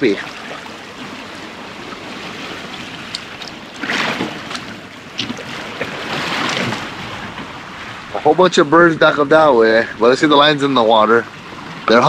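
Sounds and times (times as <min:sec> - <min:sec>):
water rushing along boat hull: 0:00.0 - 0:12.0.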